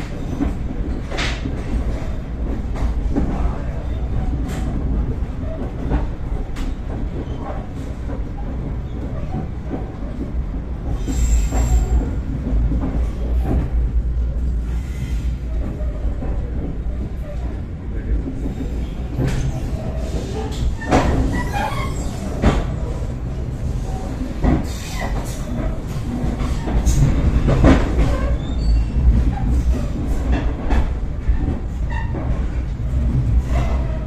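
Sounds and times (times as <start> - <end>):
train coach rumble: 0.0 - 34.0.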